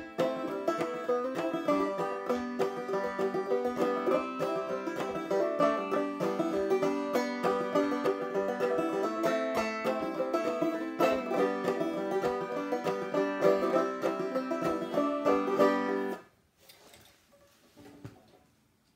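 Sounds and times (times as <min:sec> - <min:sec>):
banjo played clawhammer style: 0:00.0 - 0:16.3.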